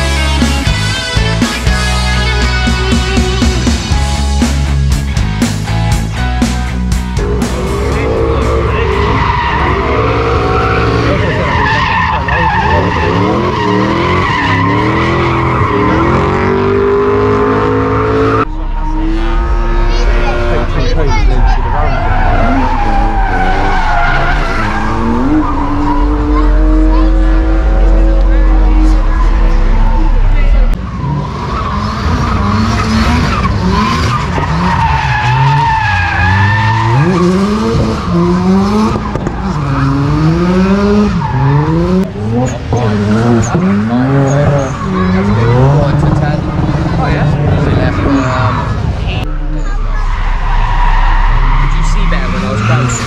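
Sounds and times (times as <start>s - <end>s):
car engine revving: 0.0s - 53.0s
tyres screeching: 7.2s - 30.7s, 31.6s - 53.0s.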